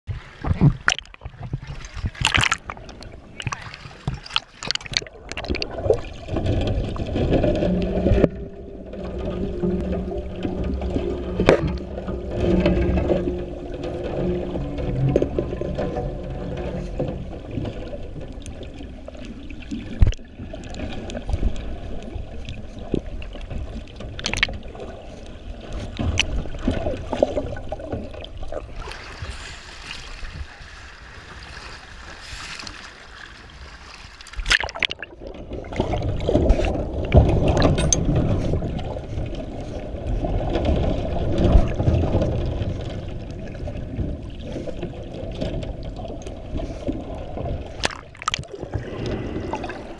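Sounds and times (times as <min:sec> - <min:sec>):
choppy waves: 0:00.0 - 0:49.9
muffled underwater rumble: 0:00.1 - 0:31.6, 0:34.8 - 0:49.9
water splash: 0:00.1 - 0:49.9.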